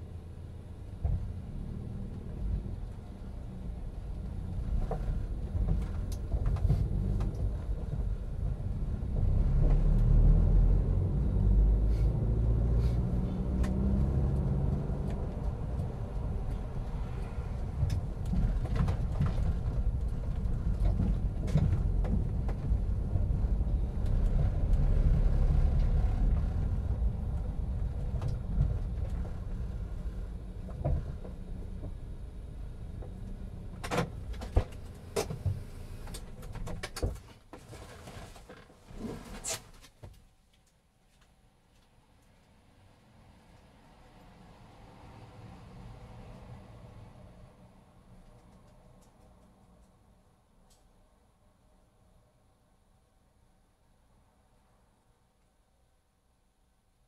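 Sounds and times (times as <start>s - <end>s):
road rumble of towed buggy: 0.0s - 40.7s, 41.6s - 52.3s.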